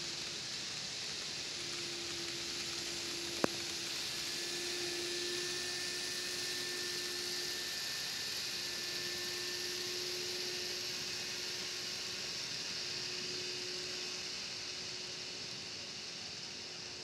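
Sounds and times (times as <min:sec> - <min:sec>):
model train running on track: 0:00.0 - 0:17.0
small electric motors humming: 0:00.0 - 0:17.0.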